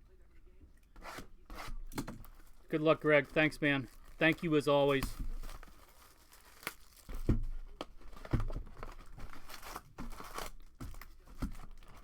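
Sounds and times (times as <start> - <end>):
foil wrappers crinkling and tearing: 1.7 - 12.0.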